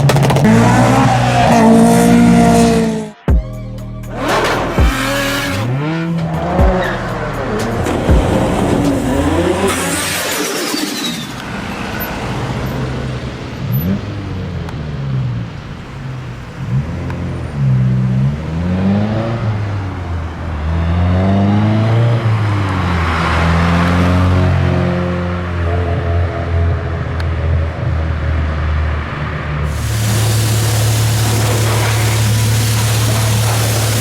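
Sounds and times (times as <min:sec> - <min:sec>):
car engine revving: 0:00.0 - 0:03.3, 0:04.1 - 0:34.0.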